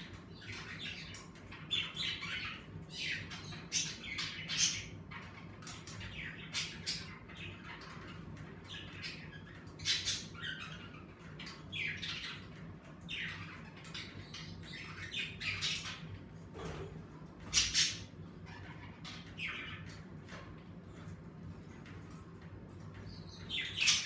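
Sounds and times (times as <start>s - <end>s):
budgerigars squawking and chirping: 0.1s - 20.0s.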